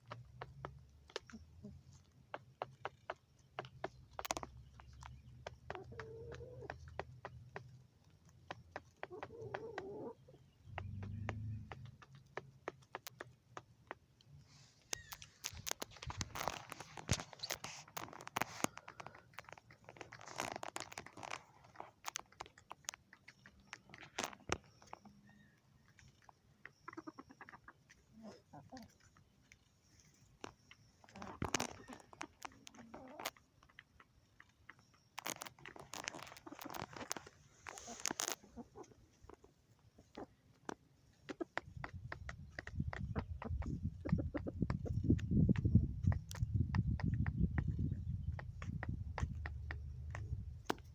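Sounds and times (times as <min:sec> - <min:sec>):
chickens pecking feed: 0:00.0 - 0:50.9.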